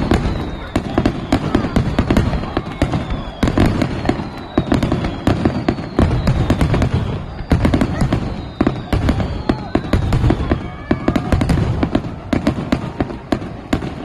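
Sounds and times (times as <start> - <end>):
fireworks cracking: 0.0 - 14.0.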